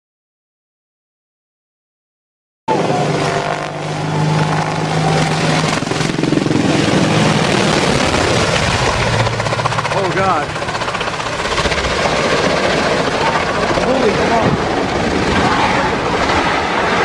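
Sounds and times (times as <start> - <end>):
helicopter rotor and engine: 2.7 - 17.0.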